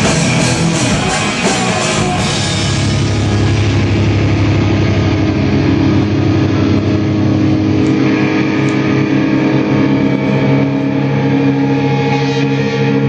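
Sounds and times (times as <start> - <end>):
hardcore band playing live: 0.0 - 13.0.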